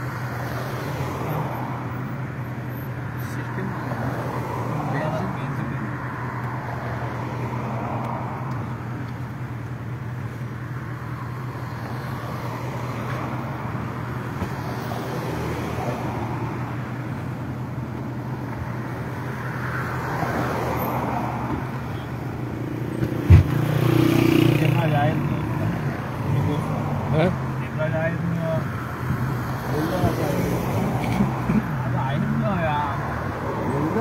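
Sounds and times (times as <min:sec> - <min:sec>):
car cabin road noise: 0:00.0 - 0:34.0
vehicles passing: 0:00.0 - 0:34.0.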